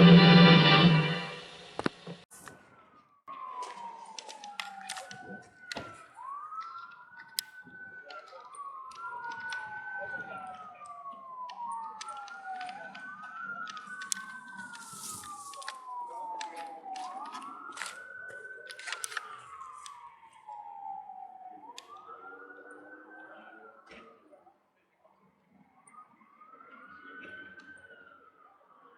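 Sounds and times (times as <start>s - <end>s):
distant siren wailing: 0.0s - 28.9s.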